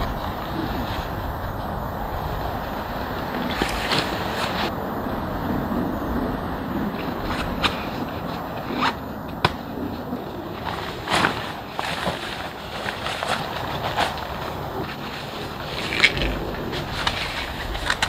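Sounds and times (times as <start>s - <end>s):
backpack and gear rustling: 0.0s - 18.0s
wind hiss: 0.0s - 18.0s.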